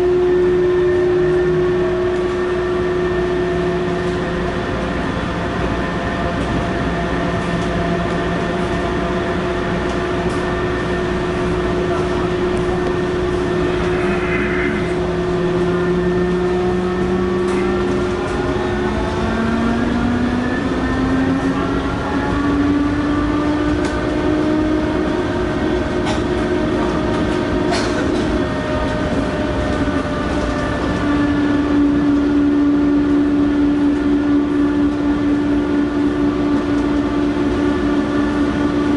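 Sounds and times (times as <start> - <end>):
train inverter whine: 0.0 - 38.9
train running rumble: 0.0 - 38.9.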